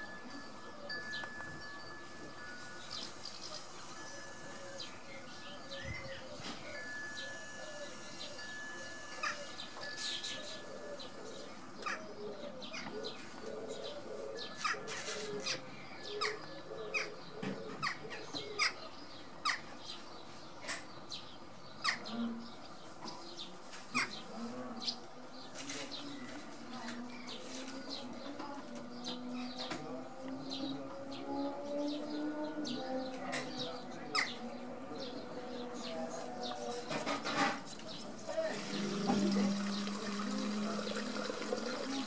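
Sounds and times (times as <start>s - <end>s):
small birds chirping: 0.7s - 42.0s.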